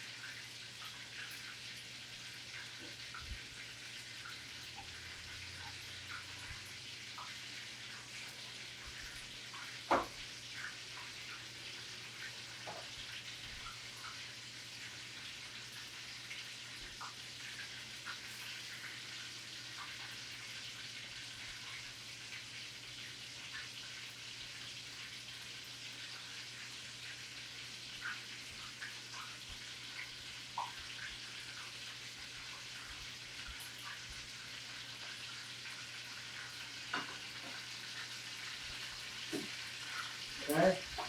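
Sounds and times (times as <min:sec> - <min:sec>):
chicken frying in hot oil: 0:00.0 - 0:41.0.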